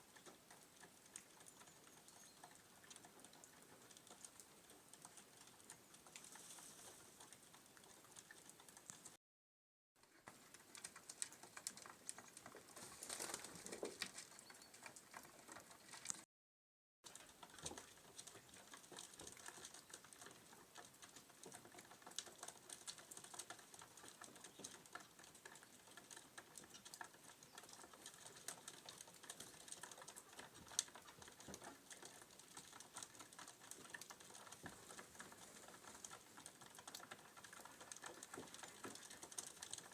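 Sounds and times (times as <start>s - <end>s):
pigeons pecking feed: 0.0s - 9.2s, 10.0s - 16.2s, 17.1s - 39.9s.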